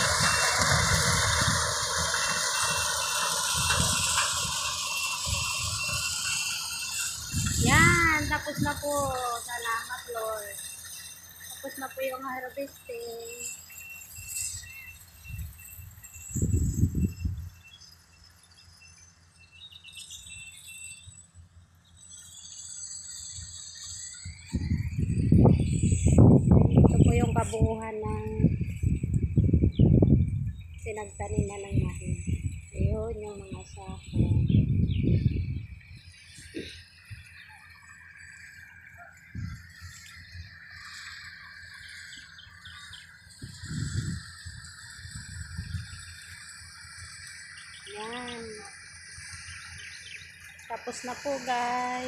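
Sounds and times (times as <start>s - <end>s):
wind rumbling on microphone: 0.0s - 10.8s, 14.1s - 17.8s, 23.4s - 52.0s
birds chirping: 0.0s - 52.0s
distant farm machinery engine: 0.0s - 52.0s
faint steady whine: 0.0s - 52.0s.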